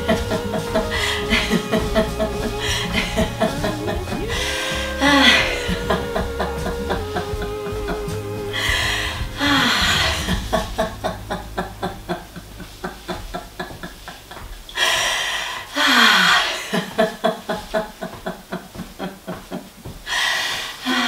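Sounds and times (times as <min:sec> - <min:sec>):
person laughing: 0:00.0 - 0:14.5, 0:15.9 - 0:19.8.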